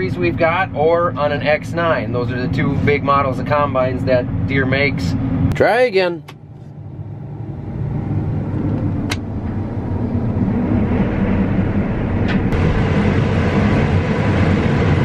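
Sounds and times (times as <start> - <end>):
combine harvester humming: 0.0 - 15.0.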